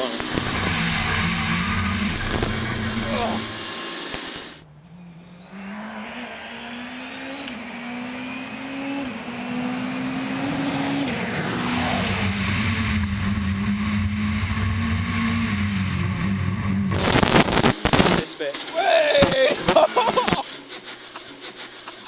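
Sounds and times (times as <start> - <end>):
rally car engine: 0.0 - 22.0.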